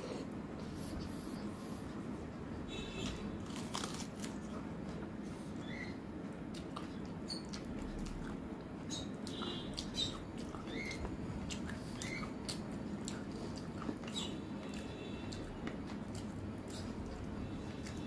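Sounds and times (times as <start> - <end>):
low background noise: 0.0 - 18.0
person chewing with smacking: 3.0 - 18.0.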